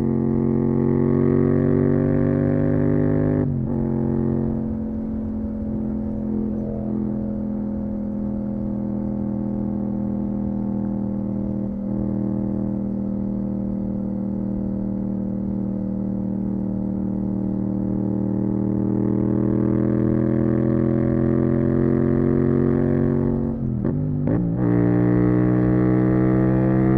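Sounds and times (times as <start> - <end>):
motorcycle engine cruising: 0.0 - 26.9.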